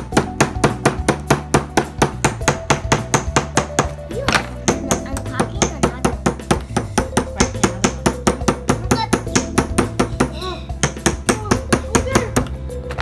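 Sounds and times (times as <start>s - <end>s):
mallet tapping chisel into plaster: 0.2s - 12.6s.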